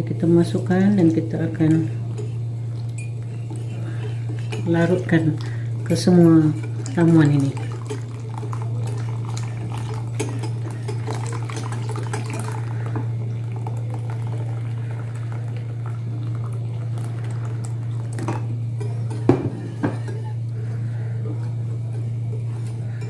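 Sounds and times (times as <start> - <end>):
milk pouring into bowl: 0.6 - 22.5
liquid splashing: 1.0 - 21.0.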